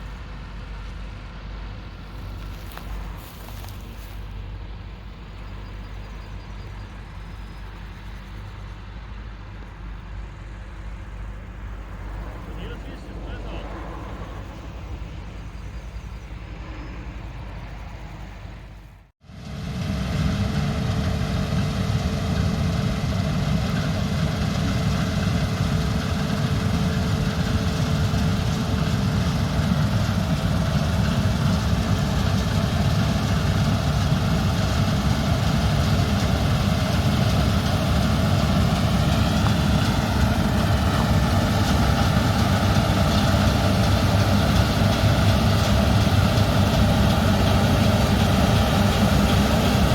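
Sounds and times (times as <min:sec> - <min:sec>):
diesel engine running: 0:00.0 - 0:49.9
quieter engine running: 0:00.0 - 0:49.9.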